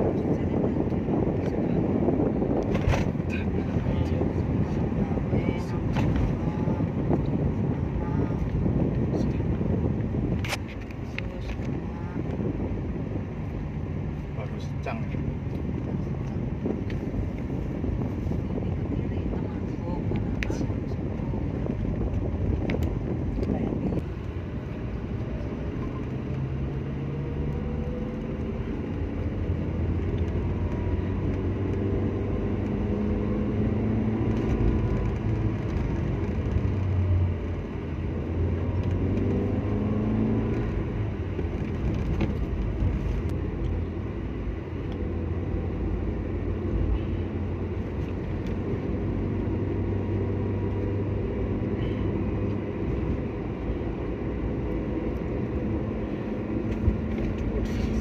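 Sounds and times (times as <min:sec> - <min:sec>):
car engine droning: 0:00.0 - 0:58.0
road noise: 0:00.0 - 0:58.0.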